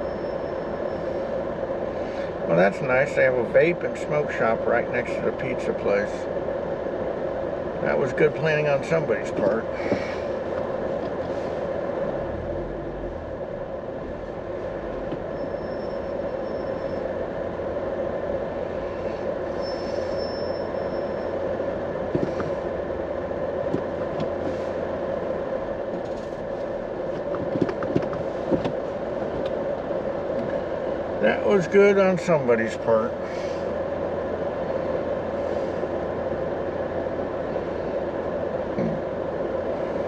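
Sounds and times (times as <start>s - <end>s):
faint high whine: 0.0s - 27.1s, 28.3s - 40.0s
car road and engine hum: 0.0s - 40.0s.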